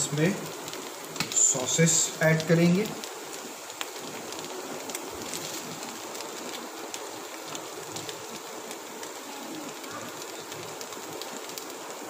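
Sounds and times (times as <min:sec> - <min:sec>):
beef and onions sizzling: 0:00.0 - 0:12.0.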